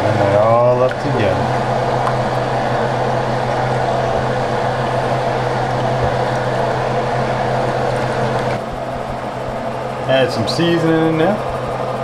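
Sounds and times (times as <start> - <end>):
gas burner rushing: 0.0 - 12.0.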